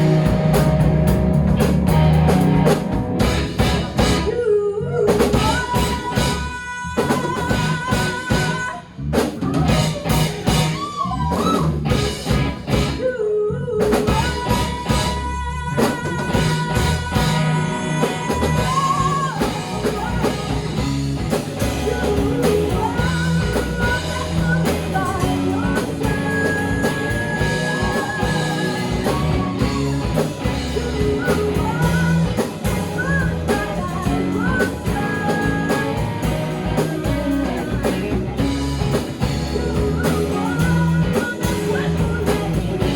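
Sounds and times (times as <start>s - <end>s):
drum kit: 0.0s - 4.4s, 5.1s - 13.1s, 13.8s - 42.9s
electric guitar: 0.0s - 13.2s, 13.8s - 42.9s
person singing: 4.2s - 11.7s, 12.9s - 21.0s, 21.6s - 42.9s.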